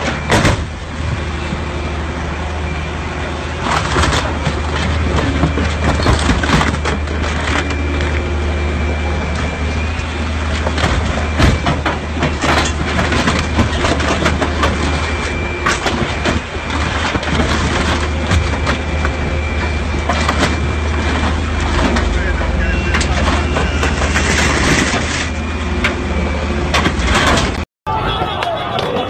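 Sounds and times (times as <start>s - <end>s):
machine engine droning: 0.0s - 29.0s.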